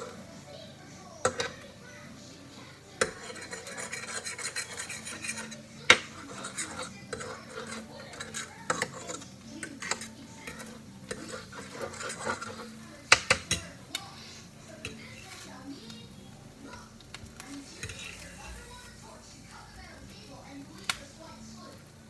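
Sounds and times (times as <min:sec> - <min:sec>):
utensil scraping and tapping pan: 0:00.0 - 0:21.9.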